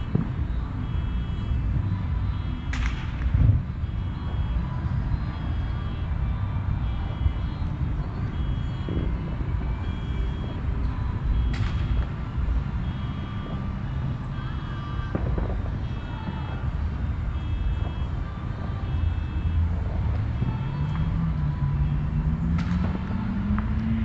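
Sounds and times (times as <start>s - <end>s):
reversing alarm beeping: 0.0s - 23.6s
vehicle engine rumbling: 0.0s - 24.0s.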